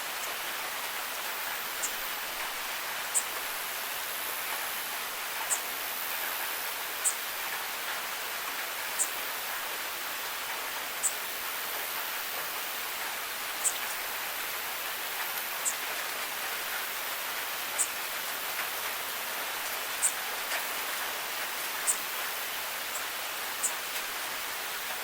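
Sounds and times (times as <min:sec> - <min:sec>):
rain hiss: 0:00.0 - 0:25.0.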